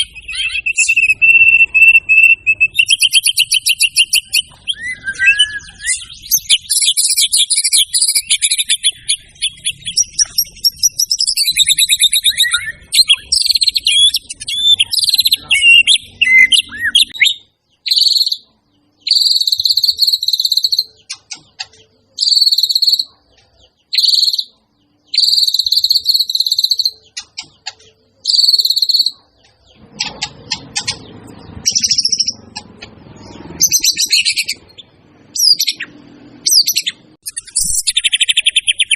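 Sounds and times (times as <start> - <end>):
songbird singing high warbling: 0.0 - 38.9.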